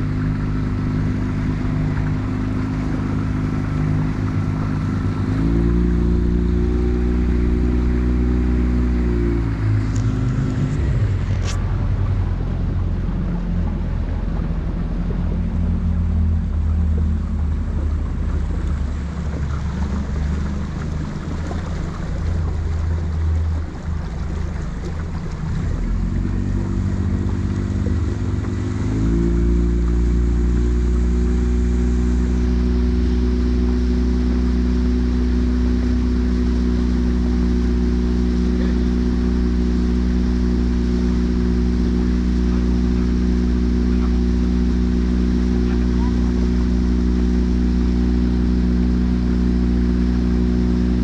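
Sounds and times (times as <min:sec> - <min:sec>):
motor boat engine running: 0:00.0 - 0:51.0.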